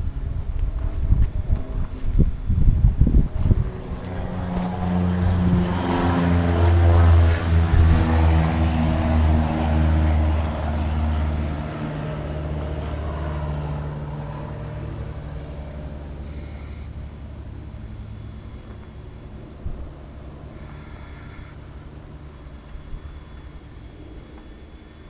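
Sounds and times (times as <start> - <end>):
passing vehicle engine drone: 0.0 - 25.0.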